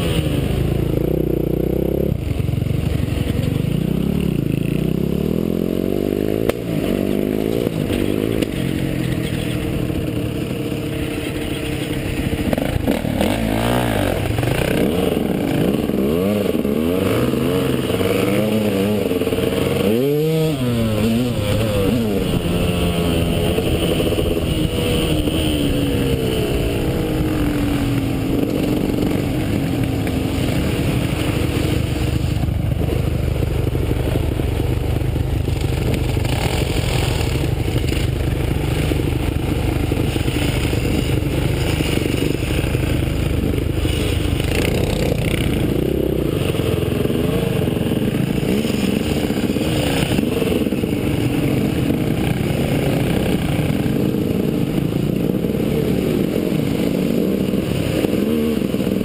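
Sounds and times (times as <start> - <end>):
dirt bike engine revving: 0.0 - 59.0
other dirt bike engines: 0.0 - 59.0.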